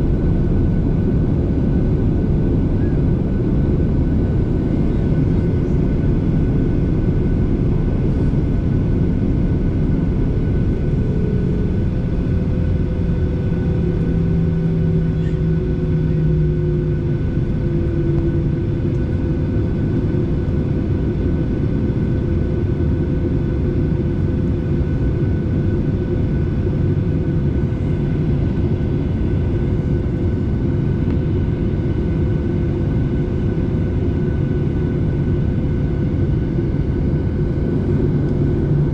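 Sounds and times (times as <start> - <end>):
airliner engine rumble and whine: 0.0 - 38.9.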